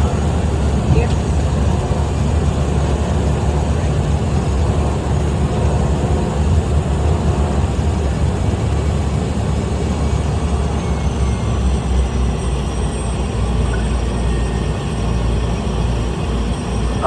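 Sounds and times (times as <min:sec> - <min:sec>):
small plane engine and propeller: 0:00.0 - 0:17.0.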